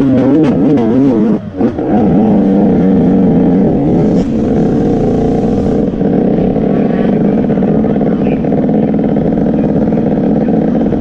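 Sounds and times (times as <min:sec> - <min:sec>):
motocross bike engine running: 0:00.0 - 0:11.0.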